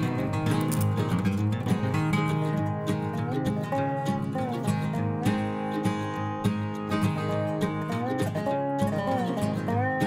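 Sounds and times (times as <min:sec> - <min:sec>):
plucked-string tune: 0:00.0 - 0:10.0.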